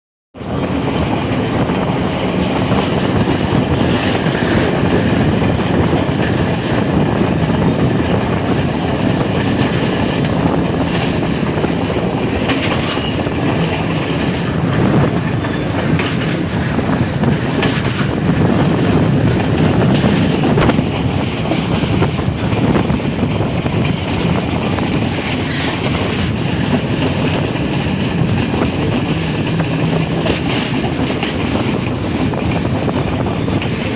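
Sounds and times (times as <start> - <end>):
train rumbling on rails: 0.3 - 33.9
wheels clacking: 0.4 - 33.9.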